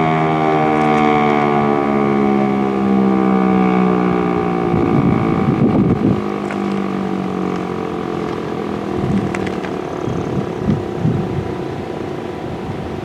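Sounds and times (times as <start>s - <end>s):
electronic warning siren: 0.0s - 11.4s
gusty rumble: 0.4s - 13.0s.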